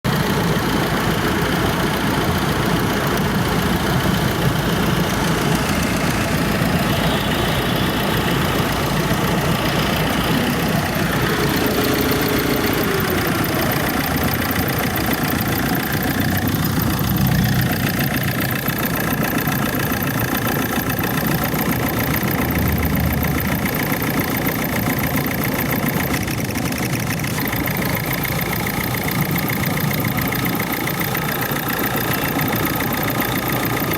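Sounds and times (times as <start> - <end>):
motor-driven machine humming: 0.3 - 33.9.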